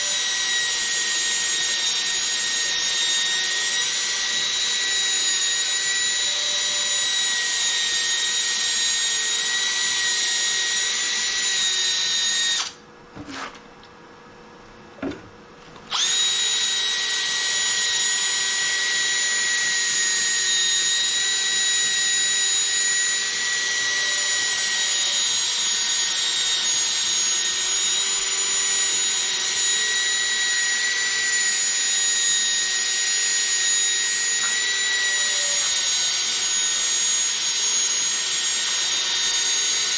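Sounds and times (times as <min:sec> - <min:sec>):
drill sanding plastic whine: 0:00.0 - 0:12.8, 0:15.9 - 0:39.9.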